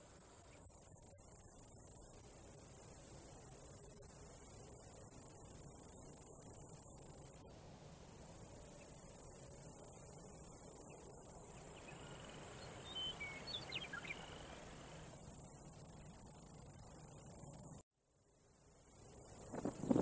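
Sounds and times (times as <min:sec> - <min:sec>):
crickets trilling: 0:00.0 - 0:17.8, 0:18.4 - 0:20.0.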